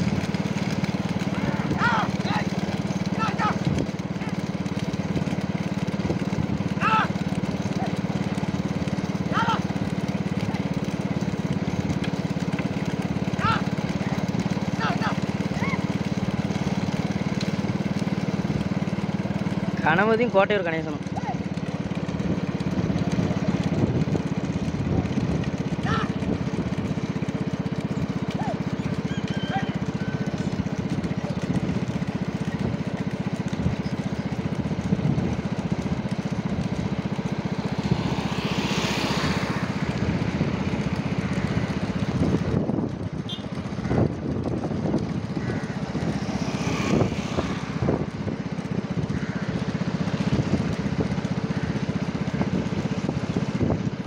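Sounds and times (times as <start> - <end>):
motorcycle engines running: 0.0 - 54.0.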